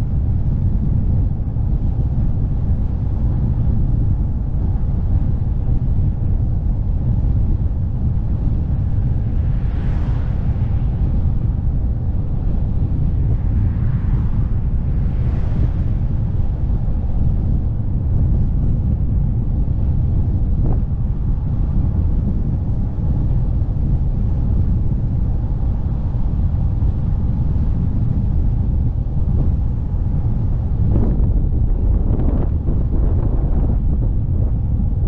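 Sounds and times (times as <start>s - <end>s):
rolling road noise: 0.0s - 35.0s
wind buffeting microphone: 0.0s - 35.0s.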